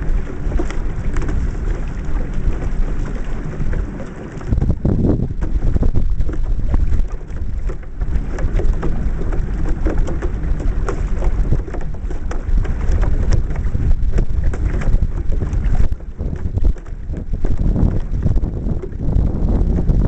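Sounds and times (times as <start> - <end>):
water splashing against boat hull: 0.0 - 20.0
wind buffeting microphone: 0.0 - 20.0.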